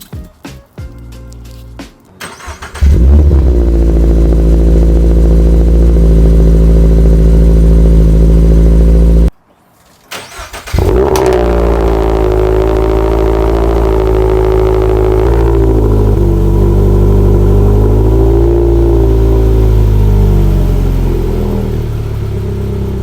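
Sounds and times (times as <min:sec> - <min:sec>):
car engine starting and idling: 0:02.2 - 0:09.4, 0:10.1 - 0:23.0.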